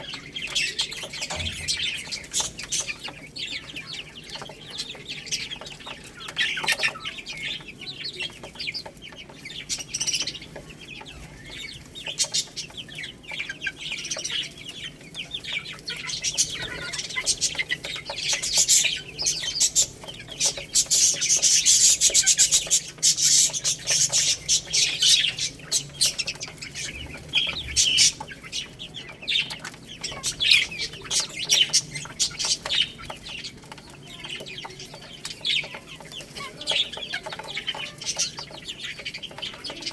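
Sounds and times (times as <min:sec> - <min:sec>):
baby chicks chirping: 0:00.0 - 0:39.9.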